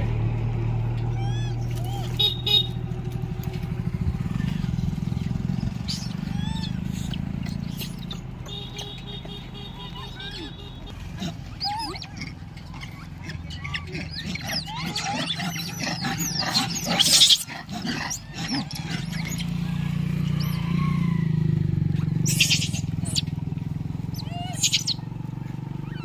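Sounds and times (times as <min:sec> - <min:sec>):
vehicle engine passing: 0:00.0 - 0:26.0
monkeys squealing and screeching: 0:01.0 - 0:02.2, 0:04.3 - 0:26.0.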